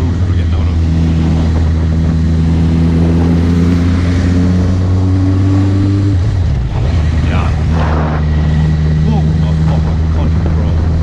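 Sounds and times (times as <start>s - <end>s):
motorcycle engine while riding: 0.0s - 11.0s.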